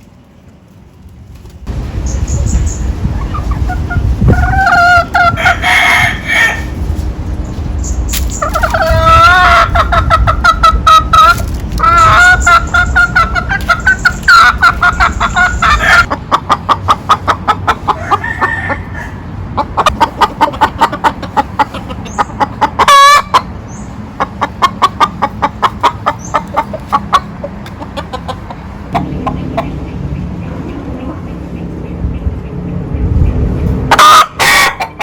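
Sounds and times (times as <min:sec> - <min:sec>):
hen clucking: 0:02.0 - 0:35.0.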